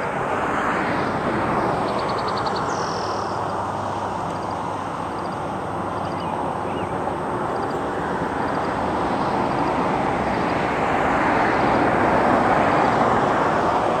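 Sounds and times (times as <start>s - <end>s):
vehicle rushing on road: 0.0s - 14.0s.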